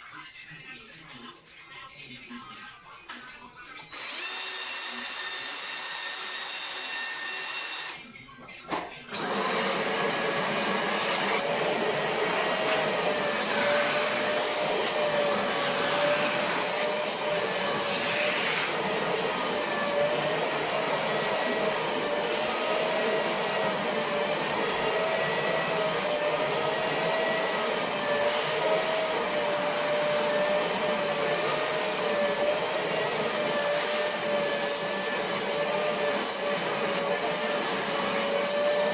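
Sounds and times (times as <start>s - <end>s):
vacuum cleaner whine: 3.9s - 8.0s, 8.7s - 38.9s.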